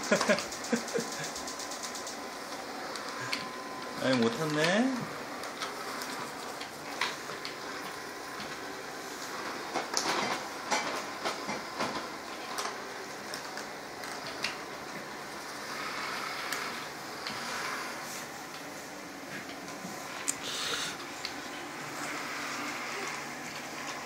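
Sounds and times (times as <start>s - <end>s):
robot vacuum whirring: 0.0s - 24.0s.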